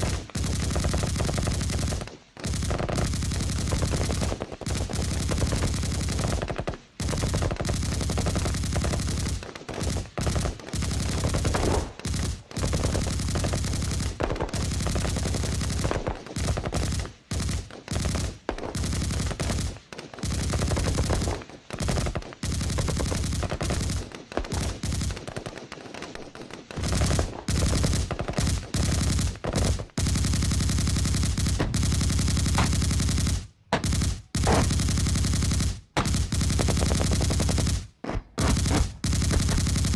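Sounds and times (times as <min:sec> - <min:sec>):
machine gun firing in bursts: 0:00.0 - 0:39.9.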